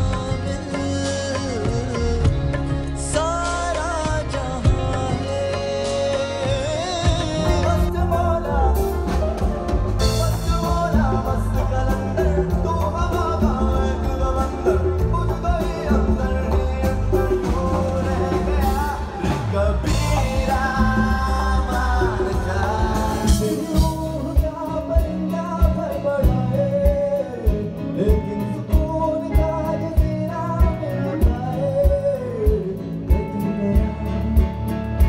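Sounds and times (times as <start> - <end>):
drums: 0.0 - 35.0
electric guitar: 0.0 - 35.0
man singing: 0.0 - 35.0.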